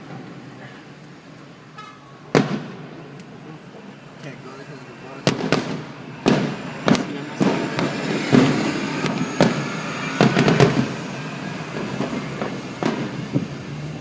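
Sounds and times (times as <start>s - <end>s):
fireworks crackling and rumbling: 0.0s - 14.0s
fireworks bangs: 1.6s - 14.0s.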